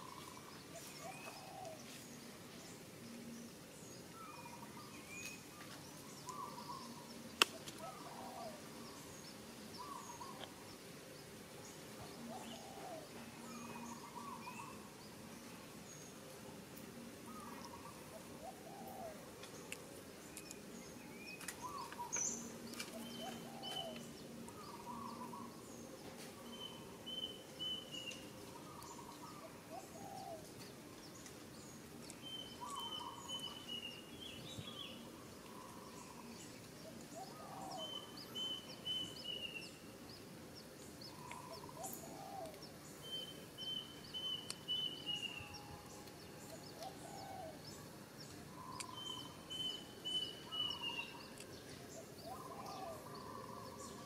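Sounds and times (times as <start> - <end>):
birds calling: 0.0 - 16.3, 16.9 - 54.0
outdoor background noise: 0.0 - 54.0.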